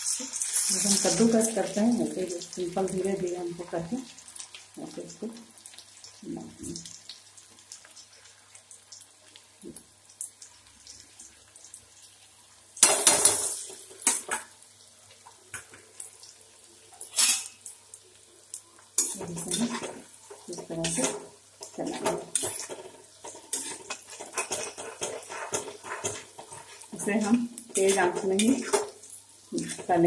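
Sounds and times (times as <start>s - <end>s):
hot oil sizzling: 0.0s - 30.0s.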